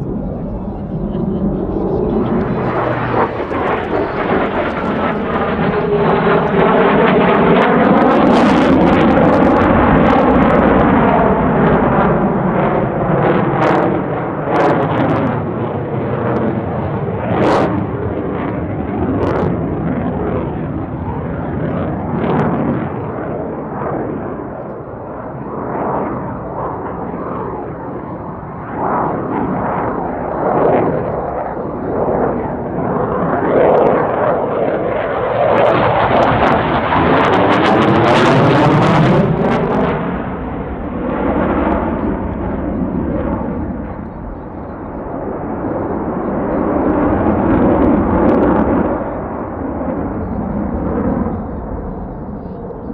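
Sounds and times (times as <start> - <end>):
jet noise crackles: 0.0 - 18.0, 24.3 - 52.9
fighter jet passing overhead: 0.0 - 52.9.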